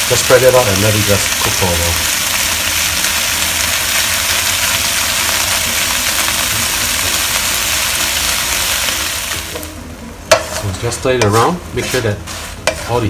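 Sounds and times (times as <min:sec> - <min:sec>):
prawn heads sizzling in oil: 0:00.0 - 0:13.0.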